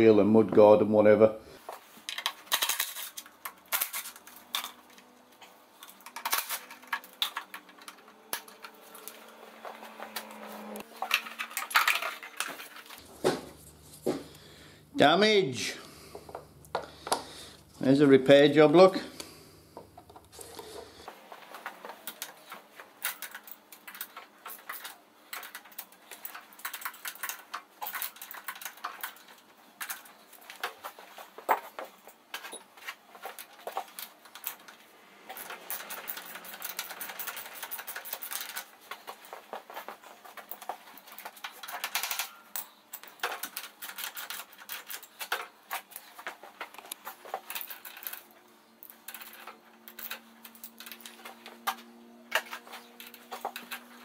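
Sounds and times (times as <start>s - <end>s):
hand tools and parts clattering: 1.6s - 18.1s, 18.8s - 54.0s.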